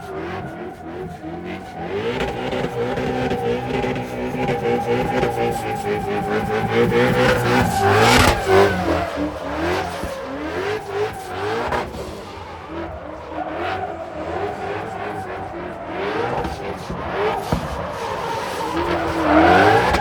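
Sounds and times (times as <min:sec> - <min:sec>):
car engine revving: 0:00.0 - 0:20.0
tires squealing: 0:00.0 - 0:20.0.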